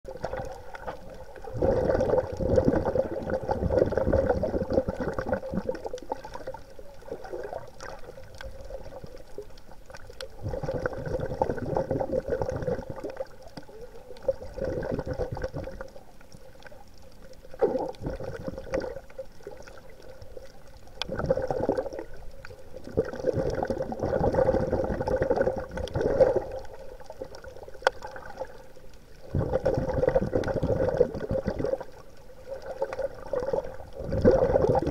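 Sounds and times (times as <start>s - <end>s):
water bubbling and gurgling: 0.0s - 34.9s.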